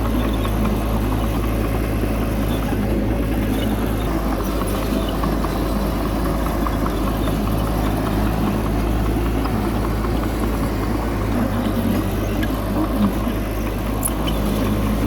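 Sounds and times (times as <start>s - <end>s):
faint ticks and rattles: 0.0s - 15.0s
heavy diesel engine running: 0.0s - 15.0s.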